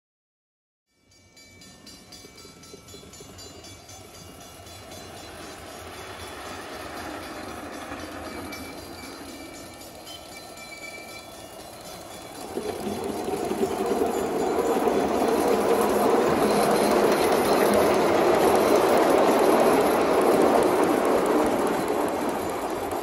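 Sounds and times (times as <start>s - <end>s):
train wheels rumbling on steel bridge: 1.3s - 23.0s.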